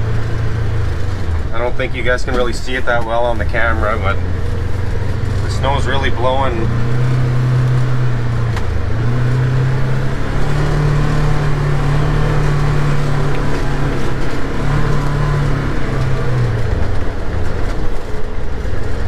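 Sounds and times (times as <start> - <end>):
engine humming inside a cab: 0.0 - 19.0.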